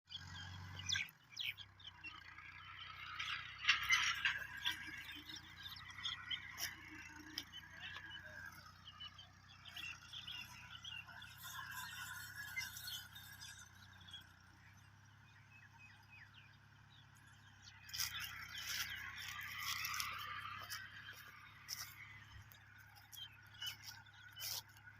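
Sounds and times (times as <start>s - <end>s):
birds chirping: 0.1s - 24.9s.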